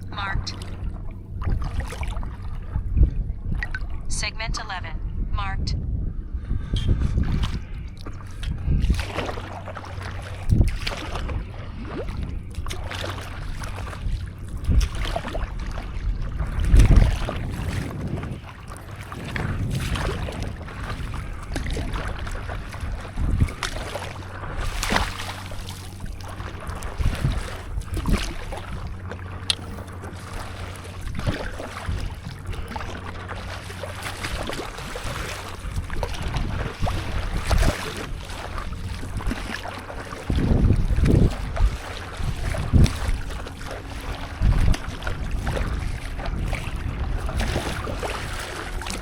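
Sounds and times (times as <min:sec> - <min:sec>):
paddle strokes splashing water: 0:00.0 - 0:04.0, 0:07.0 - 0:49.0
low wave wash: 0:00.0 - 0:49.0
wind buffeting microphone: 0:00.0 - 0:49.0.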